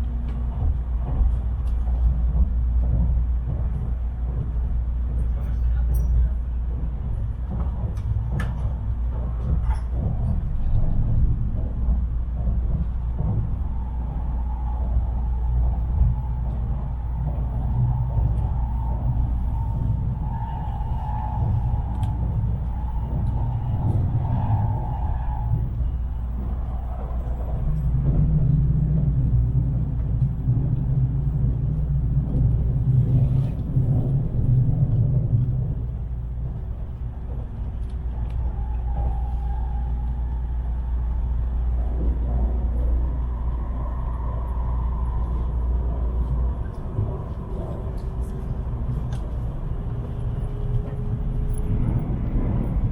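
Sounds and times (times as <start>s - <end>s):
train cabin rumble: 0.0s - 52.9s.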